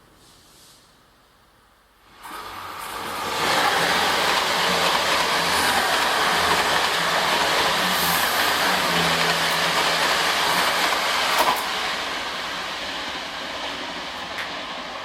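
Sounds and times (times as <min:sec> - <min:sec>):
train running on rails: 0:02.0 - 0:15.0.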